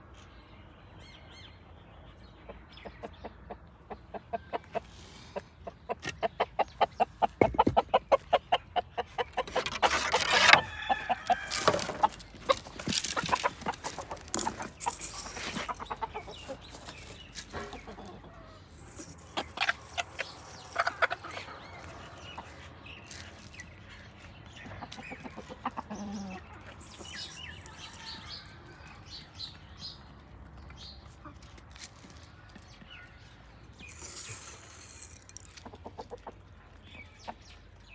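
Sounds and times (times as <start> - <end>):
hens clucking: 2.4 - 32.8, 33.8 - 37.9.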